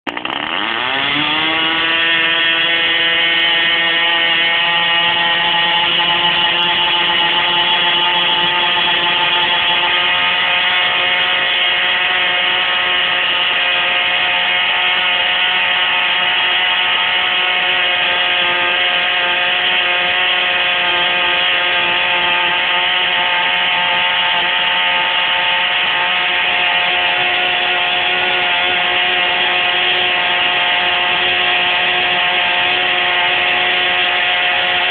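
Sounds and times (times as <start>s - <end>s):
two-stroke engine buzzing: 0.1s - 34.9s.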